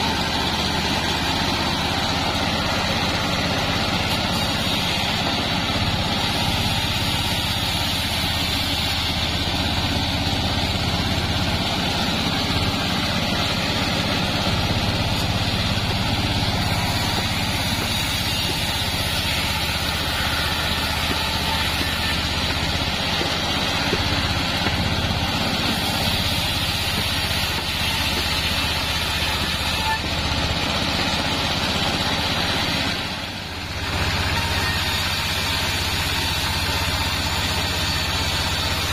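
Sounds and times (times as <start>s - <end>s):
low machine hum: 0.0s - 37.6s
band saw cutting wood: 0.0s - 38.9s.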